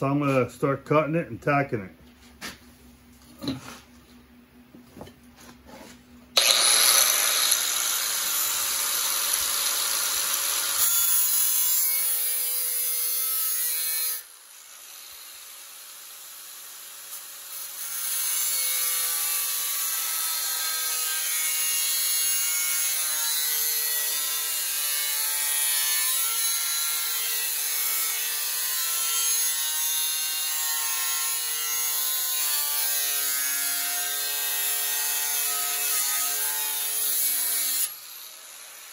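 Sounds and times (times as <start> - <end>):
angle grinder cutting sheet steel: 6.4 - 38.9.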